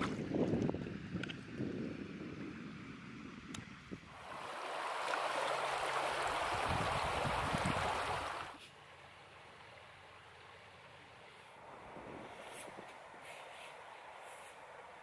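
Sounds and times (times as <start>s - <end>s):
flowing river water: 2.3s - 15.0s.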